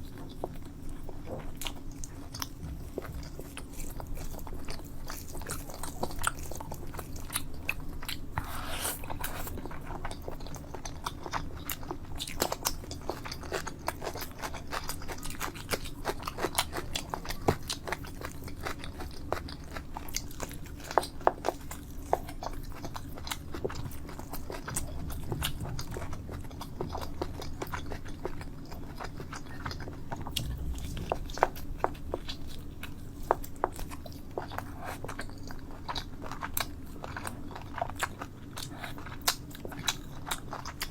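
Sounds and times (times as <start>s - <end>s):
chewing and biting: 0.0s - 40.9s
faint low hum: 0.0s - 40.9s.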